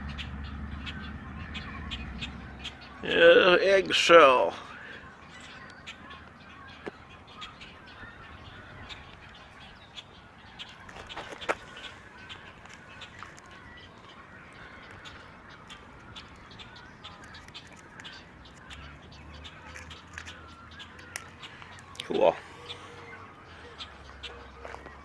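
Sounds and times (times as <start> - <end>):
birds calling and chattering: 0.0 - 25.0.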